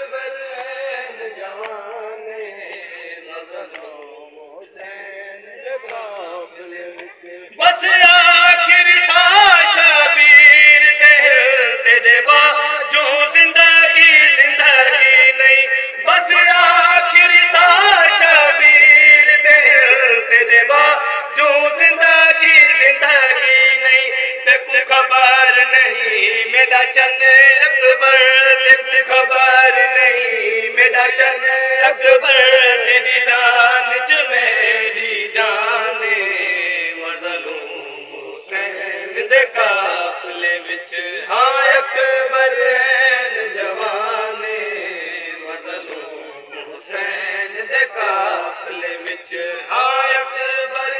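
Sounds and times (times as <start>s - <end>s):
lead voice on a microphone: 0.0s - 50.9s
men chanting a mourning lament: 0.0s - 50.9s.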